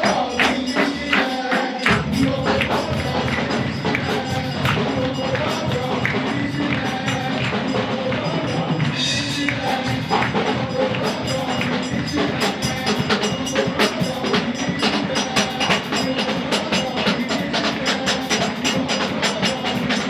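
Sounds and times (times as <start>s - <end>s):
fast steady percussion: 0.0s - 20.0s.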